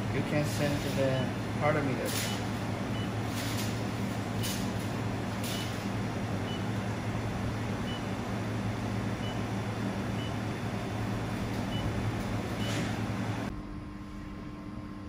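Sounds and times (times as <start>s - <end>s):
welding machine hum and fan: 0.0s - 15.0s.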